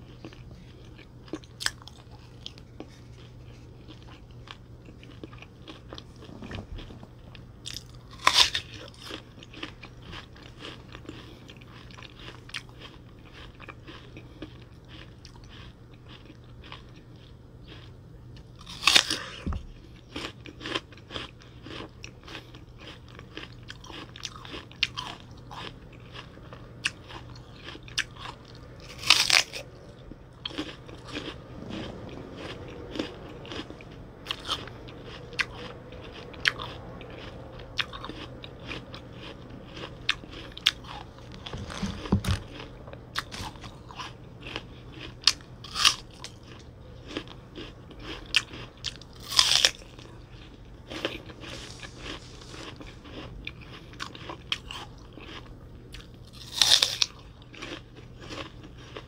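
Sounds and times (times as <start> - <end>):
wet chewing: 0.0 - 59.0
apple crunching bites: 7.6 - 17.9, 18.5 - 34.8, 35.4 - 59.0.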